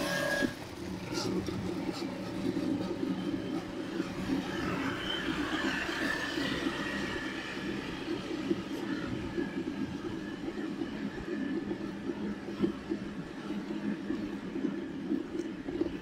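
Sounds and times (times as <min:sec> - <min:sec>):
bicycle tyres rumbling on road: 0:00.0 - 0:16.0
wind noise: 0:00.0 - 0:16.0.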